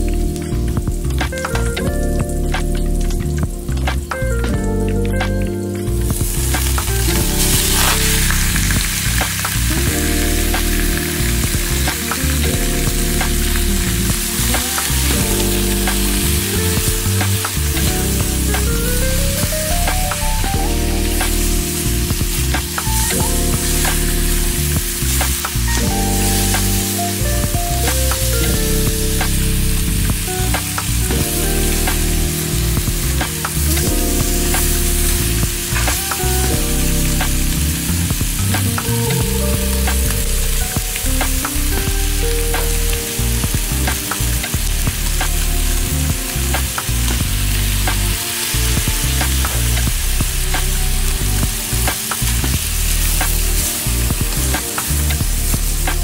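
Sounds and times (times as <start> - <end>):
chicken sizzling in oil: 5.9 - 56.0.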